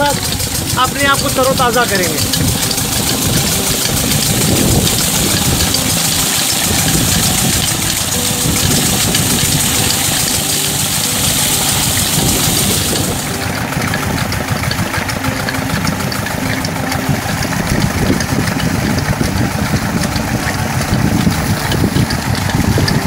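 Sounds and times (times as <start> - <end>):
high rushing hiss: 0.0 - 23.0
pump engine running: 0.0 - 23.0
water gushing: 0.0 - 23.0.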